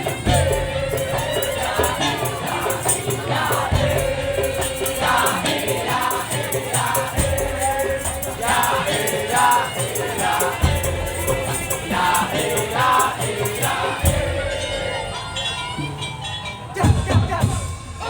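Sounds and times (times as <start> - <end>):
drum and percussion beat: 0.0 - 16.2, 16.8 - 18.0.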